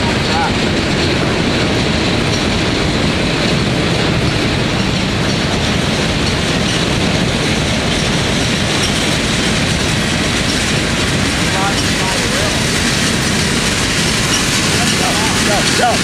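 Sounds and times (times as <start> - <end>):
freight train rumbling and clattering: 0.0 - 16.0.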